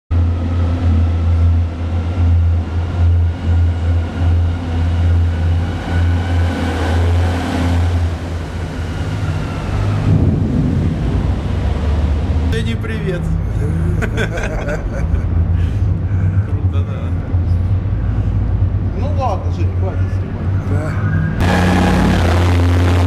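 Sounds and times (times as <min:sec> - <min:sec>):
heavy machinery drone: 0:00.1 - 0:23.0.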